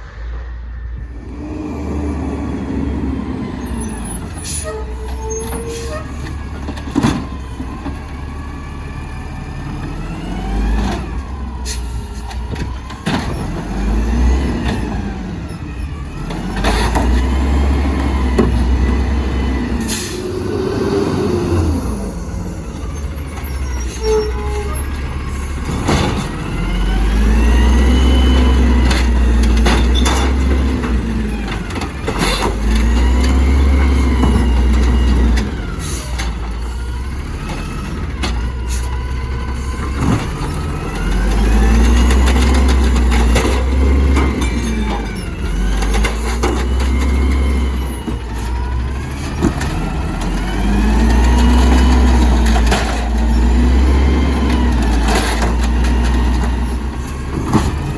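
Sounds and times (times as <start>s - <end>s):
garbage truck engine revving: 0.0s - 57.9s.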